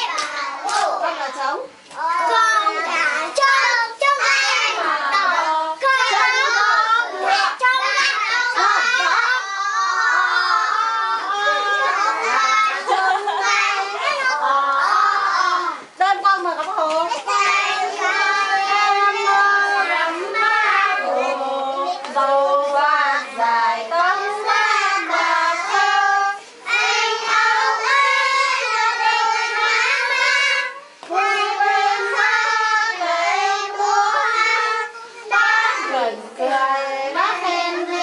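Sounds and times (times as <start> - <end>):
children singing together: 0.0 - 1.0, 2.0 - 16.0, 17.1 - 38.0.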